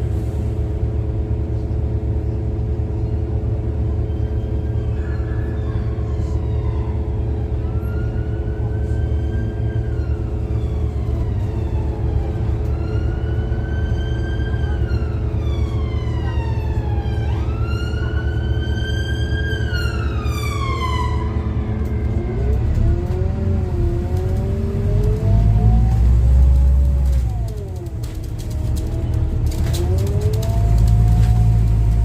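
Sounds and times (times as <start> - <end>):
bus engine running: 0.0 - 32.0
emergency siren wailing: 5.0 - 32.0.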